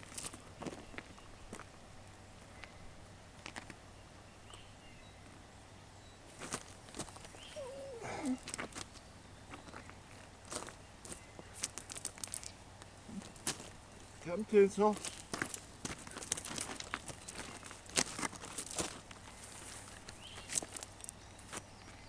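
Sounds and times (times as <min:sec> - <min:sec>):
footsteps on outdoor ground: 0:00.0 - 0:03.8, 0:06.3 - 0:22.0.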